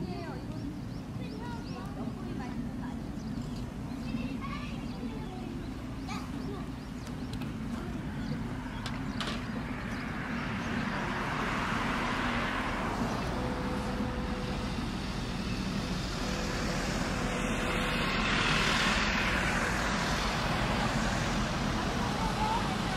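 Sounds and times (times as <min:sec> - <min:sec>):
cars passing on road: 0:00.0 - 0:22.9
steady low traffic rumble: 0:00.0 - 0:22.9.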